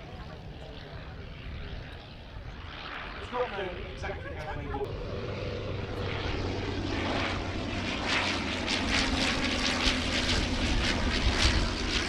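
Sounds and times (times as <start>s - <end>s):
biplane engine flying past: 0.0s - 12.0s.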